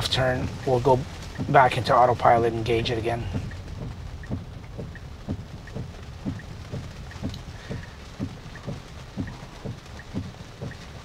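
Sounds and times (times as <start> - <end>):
rain on a car: 0.0 - 11.0
turn signal ticking: 0.0 - 11.0.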